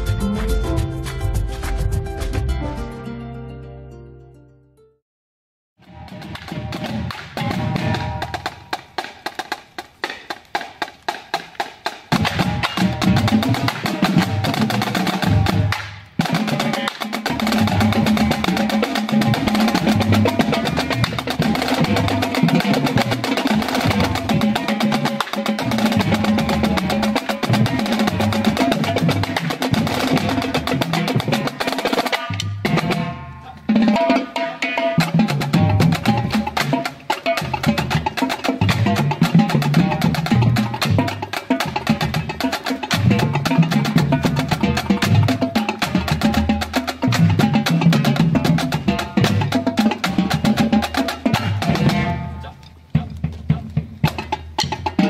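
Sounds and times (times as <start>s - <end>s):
marching drumline playing: 5.8s - 55.0s.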